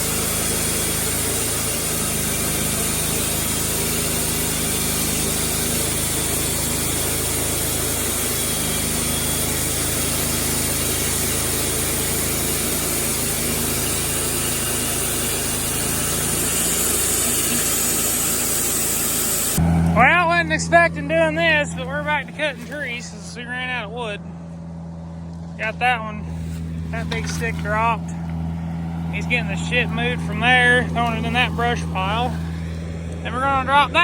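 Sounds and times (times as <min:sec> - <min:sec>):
saw cutting through log: 0:00.0 - 0:24.1, 0:25.6 - 0:34.0
sawmill engine humming: 0:00.0 - 0:34.0.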